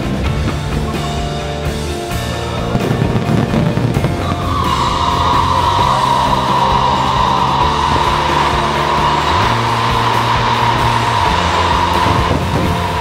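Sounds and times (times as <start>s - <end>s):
fountain fireworks hissing: 0.0s - 13.0s
music playing: 0.0s - 13.0s.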